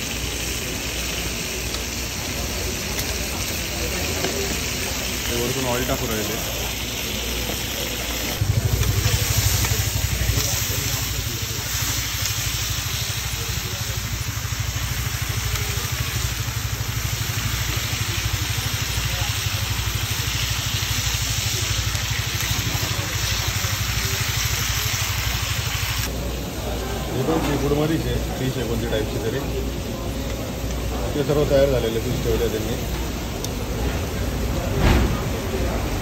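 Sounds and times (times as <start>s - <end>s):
fish sizzling in oil: 0.0s - 34.5s.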